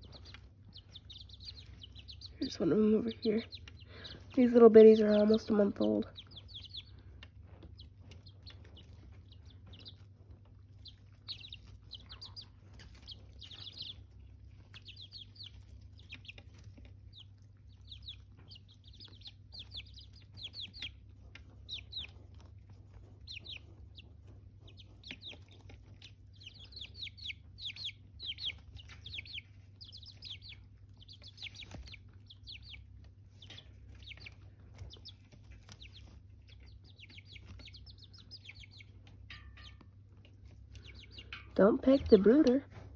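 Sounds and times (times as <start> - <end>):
chicks peeping: 0.0 - 42.9
steady low hum: 0.0 - 42.9.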